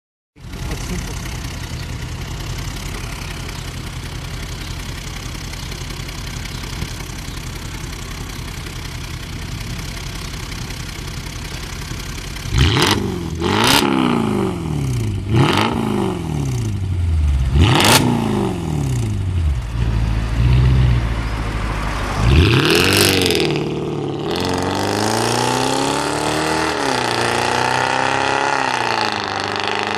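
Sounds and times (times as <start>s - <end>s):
car engine idling and revving: 0.4s - 29.9s.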